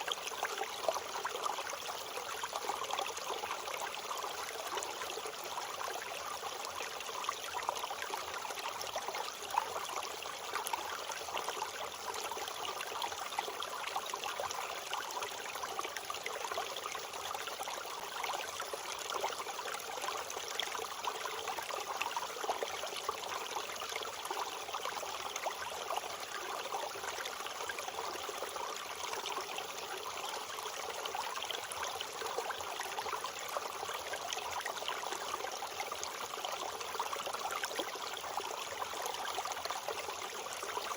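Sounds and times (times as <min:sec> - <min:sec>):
creek running over rocks: 0:00.0 - 0:40.9.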